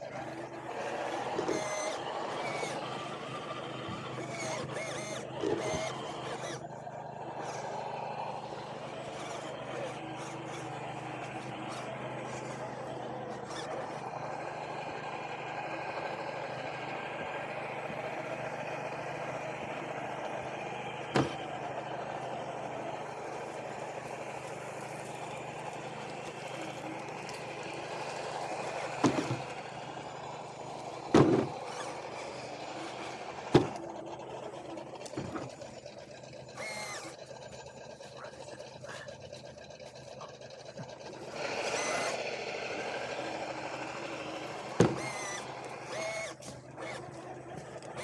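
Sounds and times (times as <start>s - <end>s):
toy car electric motor: 0.0s - 48.0s.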